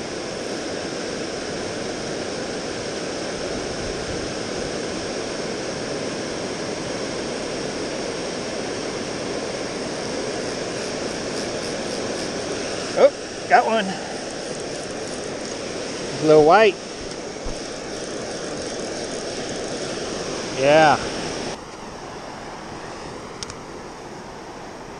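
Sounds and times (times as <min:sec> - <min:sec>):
water roaring down a spillway: 0:00.0 - 0:24.9.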